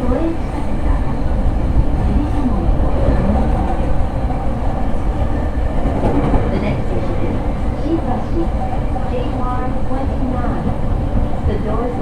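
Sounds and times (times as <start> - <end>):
train wheels and motors rumbling: 0.0 - 12.0.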